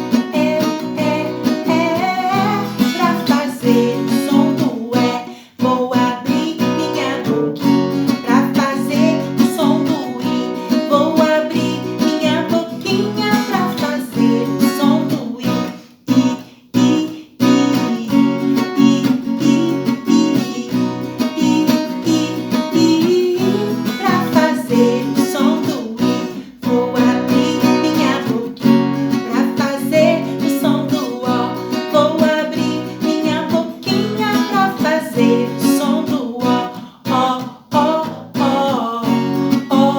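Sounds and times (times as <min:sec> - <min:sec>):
person singing a children's song: 0:00.0 - 0:39.9
strummed acoustic guitar: 0:00.0 - 0:39.9.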